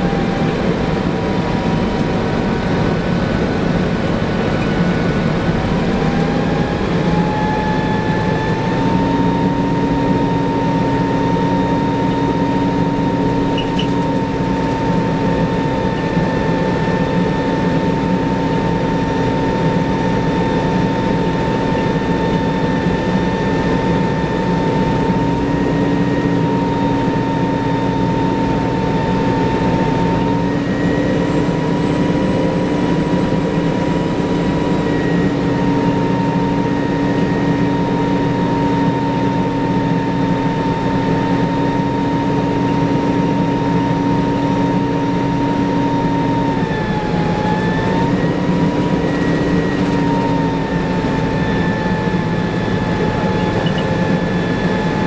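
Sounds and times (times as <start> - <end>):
bus engine running with whine: 0.0 - 55.0.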